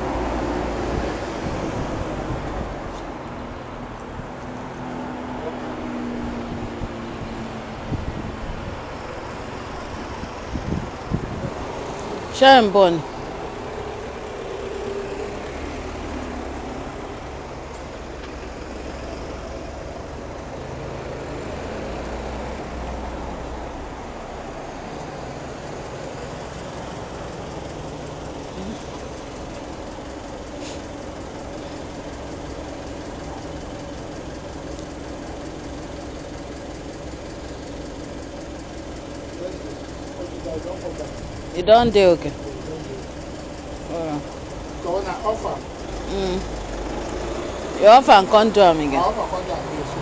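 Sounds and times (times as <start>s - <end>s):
city street traffic: 0.0s - 50.0s
idling engine hum: 0.0s - 50.0s.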